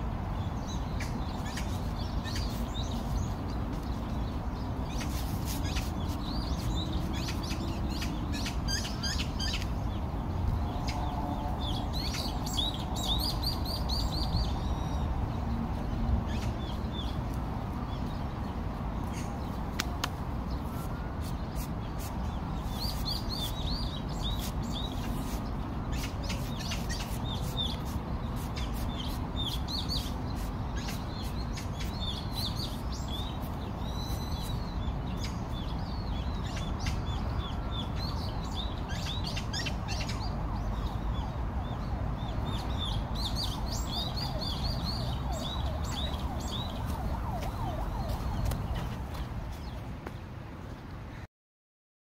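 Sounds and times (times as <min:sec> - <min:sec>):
small birds chirping: 0:00.2 - 0:51.2.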